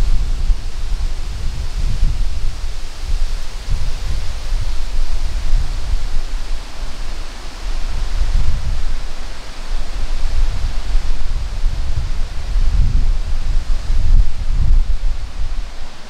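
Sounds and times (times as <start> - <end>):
wind buffeting microphone: 0.0 - 16.0
wind rustling leaves: 0.0 - 16.0.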